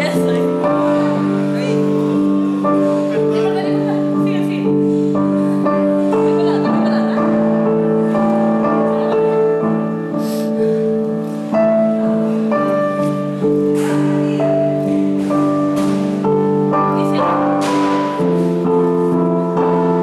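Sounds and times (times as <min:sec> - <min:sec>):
slow instrumental melody: 0:00.0 - 0:20.0.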